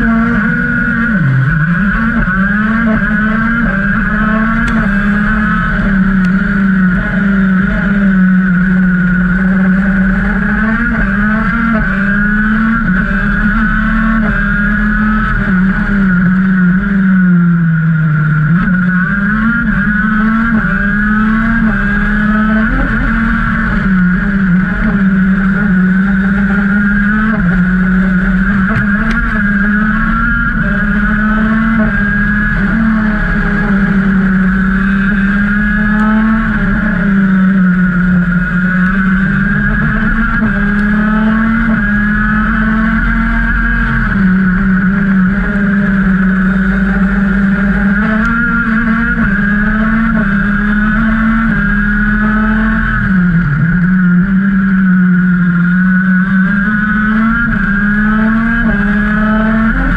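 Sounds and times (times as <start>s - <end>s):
two-stroke kart engine racing: 0.0s - 59.9s.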